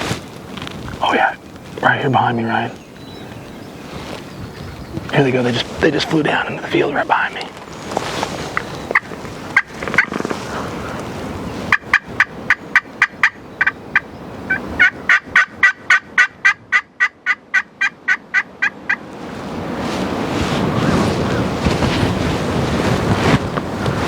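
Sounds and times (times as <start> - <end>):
wind noise on microphone: 0.0 - 16.9, 18.7 - 24.0.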